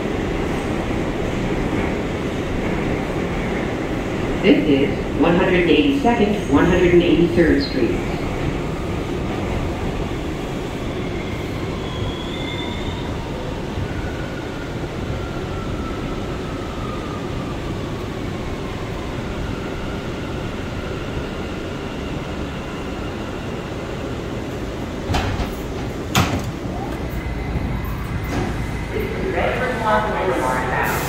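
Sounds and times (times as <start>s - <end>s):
subway train rumbling to a stop: 0.0s - 31.0s.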